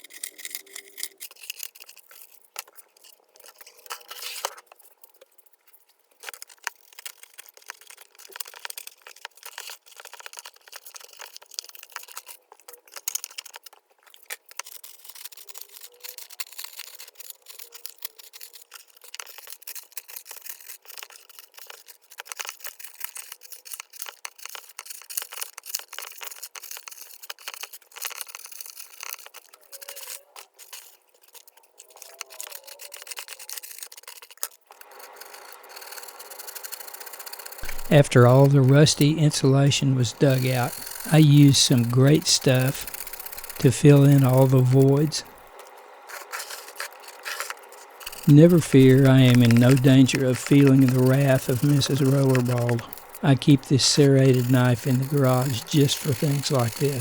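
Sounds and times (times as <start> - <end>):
insulation scraping and crunching: 0.0 - 57.0.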